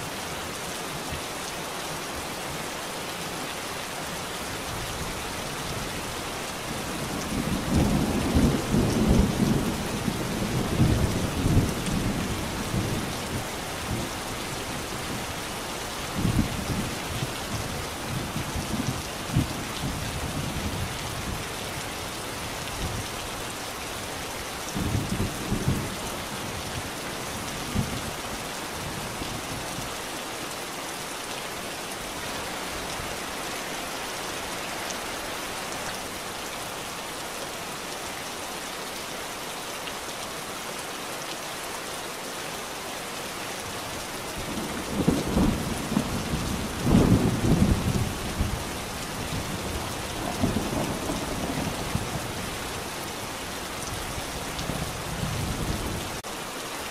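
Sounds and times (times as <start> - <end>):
steady rainfall: 0.0 - 56.9.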